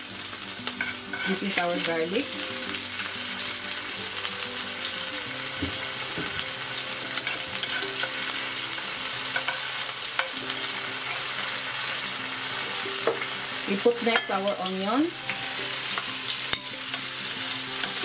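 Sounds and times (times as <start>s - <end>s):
garlic sizzling in oil: 0.0s - 18.0s.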